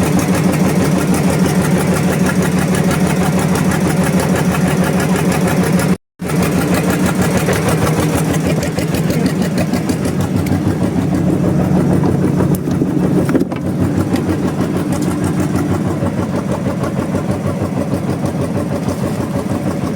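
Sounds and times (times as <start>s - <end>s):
boat engine chugging: 0.0s - 19.9s.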